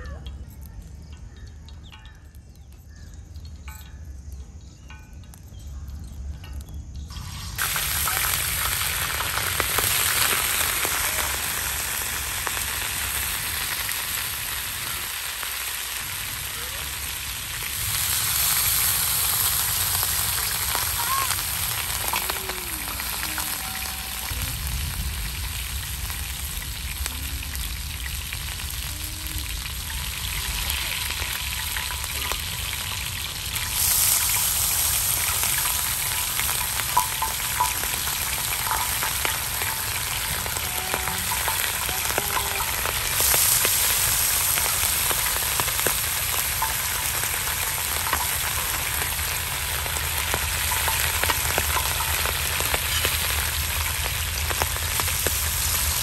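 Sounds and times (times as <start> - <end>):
patties sizzling in hot oil: 6.9 - 56.0.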